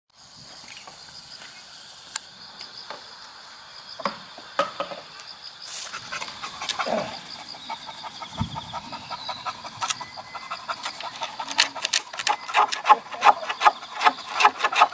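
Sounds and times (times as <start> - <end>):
crickets chirping: 0.2 - 14.9.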